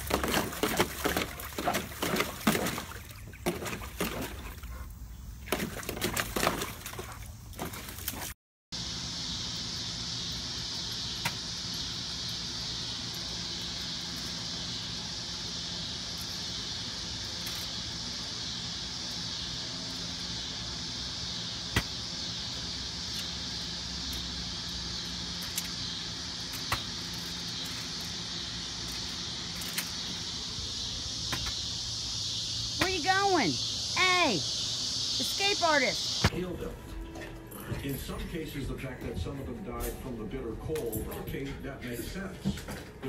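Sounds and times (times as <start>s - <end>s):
insects chorus: 0.0s - 36.7s.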